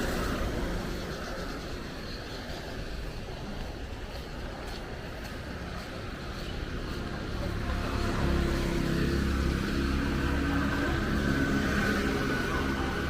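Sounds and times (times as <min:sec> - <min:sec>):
traffic hum: 0:00.0 - 0:13.0
vehicle engine rumbling: 0:00.0 - 0:13.0.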